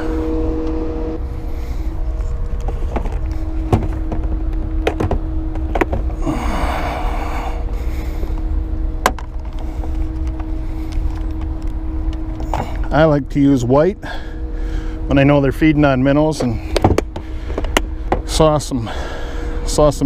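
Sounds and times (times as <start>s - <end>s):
electric motor whining: 0.0s - 19.7s
low rumble: 0.0s - 20.0s.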